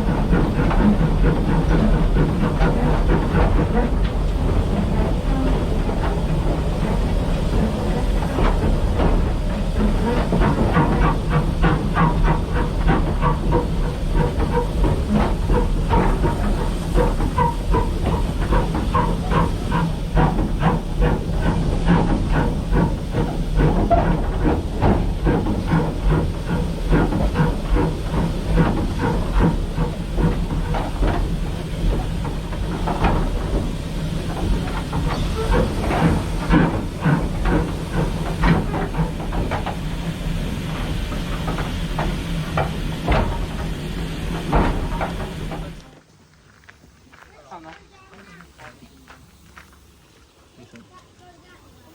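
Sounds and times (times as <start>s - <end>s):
low locomotive drone: 0.0s - 51.9s
steam hissing: 0.0s - 51.9s.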